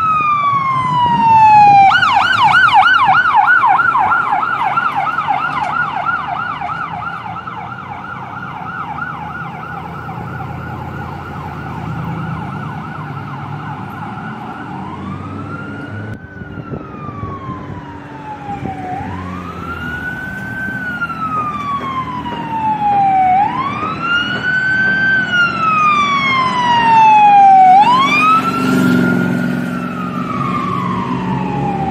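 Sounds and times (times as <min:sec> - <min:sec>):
ambulance engine: 0:00.0 - 0:31.9
siren wailing: 0:00.0 - 0:31.9
siren yelping: 0:00.0 - 0:31.9.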